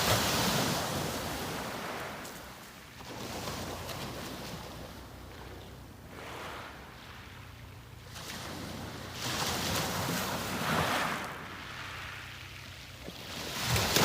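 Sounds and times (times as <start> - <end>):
waves breaking on beach: 0.0 - 14.0.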